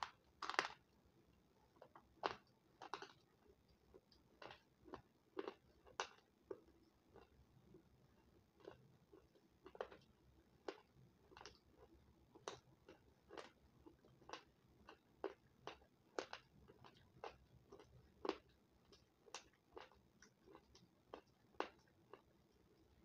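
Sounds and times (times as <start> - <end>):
crunchy chewing: 1.8 - 23.0.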